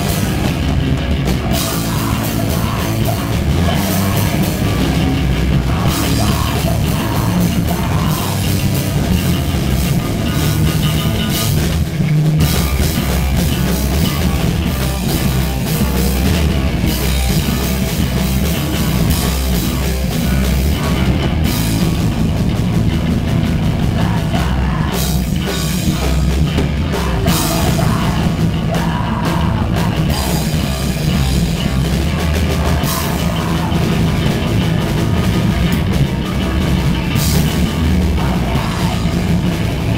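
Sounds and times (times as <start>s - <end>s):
punk band playing live: 0.0s - 39.9s.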